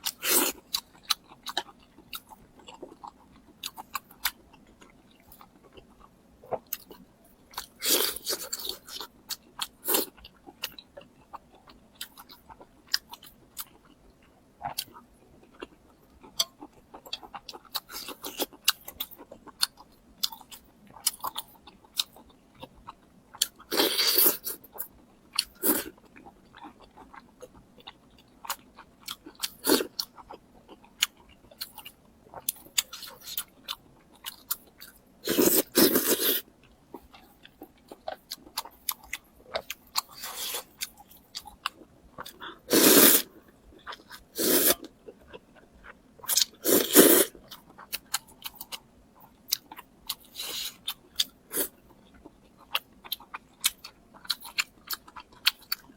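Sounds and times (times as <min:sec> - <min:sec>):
crunchy food being chewed: 0:00.0 - 0:55.9.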